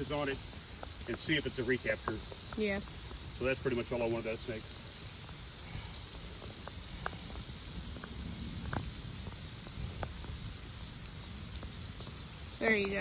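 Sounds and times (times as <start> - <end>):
rattlesnake rattling buzz: 0.0 - 13.0.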